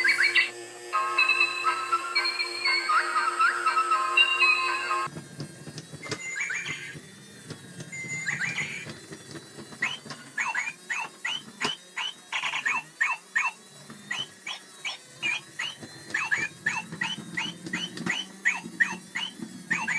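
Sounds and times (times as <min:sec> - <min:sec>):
electronic toy bird chirping: 0:00.0 - 0:05.1, 0:06.0 - 0:07.0, 0:07.9 - 0:09.0, 0:09.7 - 0:19.9.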